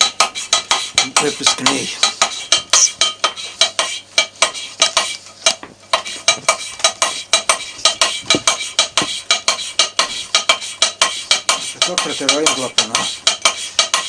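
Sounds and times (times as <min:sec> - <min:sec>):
gritty valve lapping scrapes: 0:00.0 - 0:14.0.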